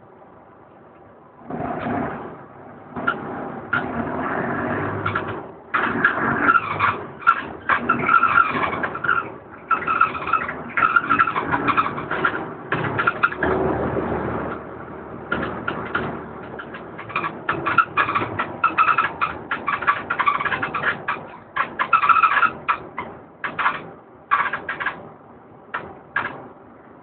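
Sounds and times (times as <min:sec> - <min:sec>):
bus body rattling: 0:00.0 - 0:27.0
bus engine whine: 0:00.0 - 0:27.0.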